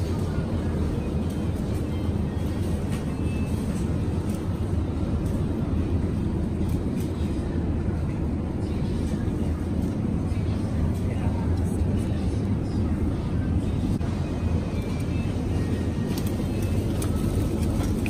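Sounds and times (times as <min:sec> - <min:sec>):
faint murmur of voices: 0:00.0 - 0:18.0
refrigerator low hum: 0:00.0 - 0:18.0.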